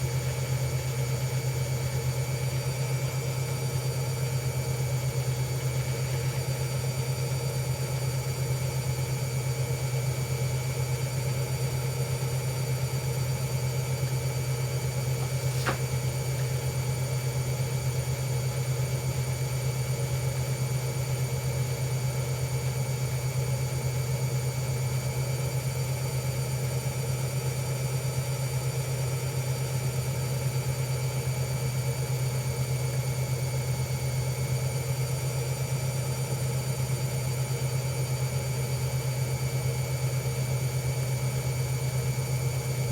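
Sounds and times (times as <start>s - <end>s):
washing machine motor hum: 0.0s - 42.9s.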